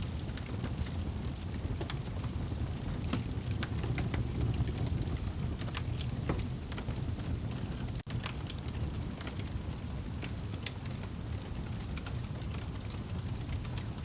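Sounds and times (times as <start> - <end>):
fire crackling and popping: 0.0 - 14.0
rain rumble: 0.0 - 14.0.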